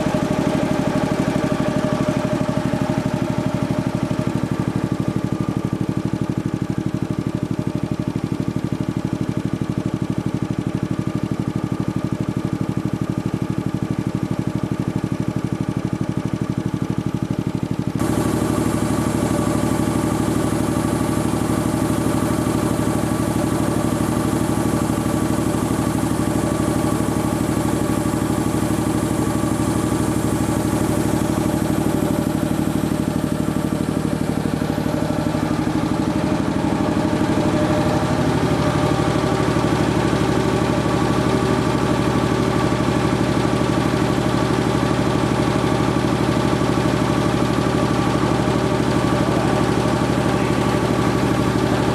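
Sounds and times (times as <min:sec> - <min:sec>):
air compressor running: 0:00.0 - 0:51.9.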